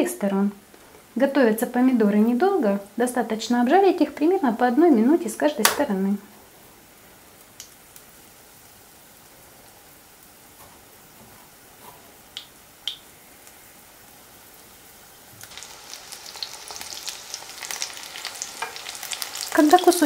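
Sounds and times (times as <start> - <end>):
crackly sizzle of frying oil: 0.0 - 20.0.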